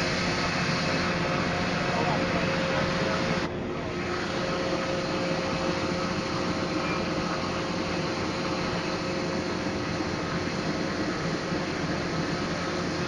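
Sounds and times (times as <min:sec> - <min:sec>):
roar of aircraft and machinery: 0:00.0 - 0:13.0.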